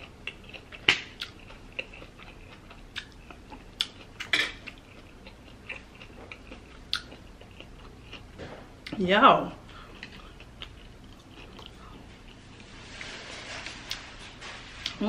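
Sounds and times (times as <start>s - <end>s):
chewing salad: 0.0s - 15.0s.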